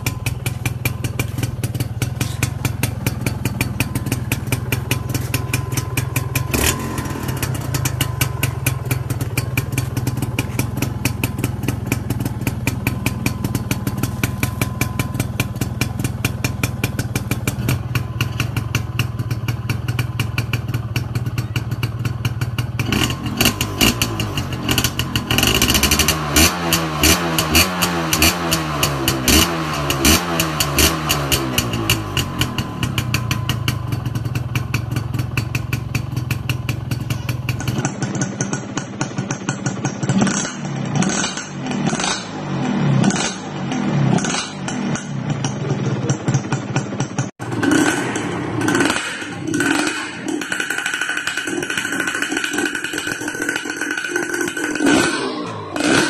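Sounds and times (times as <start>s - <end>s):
second two-stroke exhaust blipped: 0.0s - 56.0s
two-stroke motorcycle engine revving: 0.0s - 56.0s.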